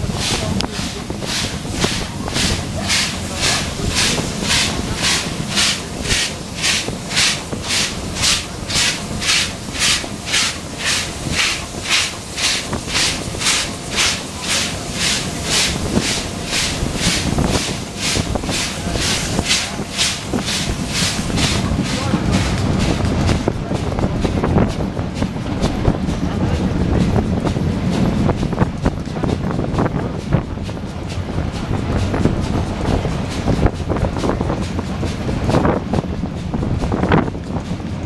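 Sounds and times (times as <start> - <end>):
steam locomotive exhaust chuffing: 0.0 - 38.0
train rumbling: 0.0 - 38.0.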